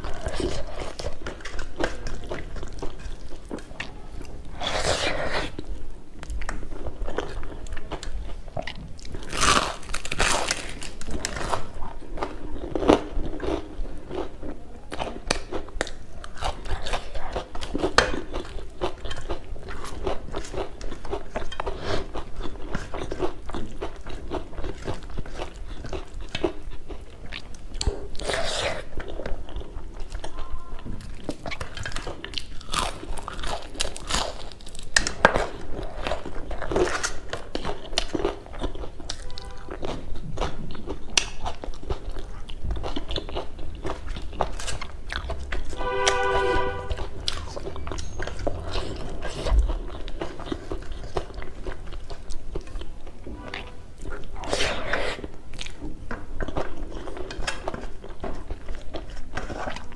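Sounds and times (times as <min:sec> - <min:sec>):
chewing and crunching food: 0:00.0 - 0:46.2, 0:46.9 - 0:59.9.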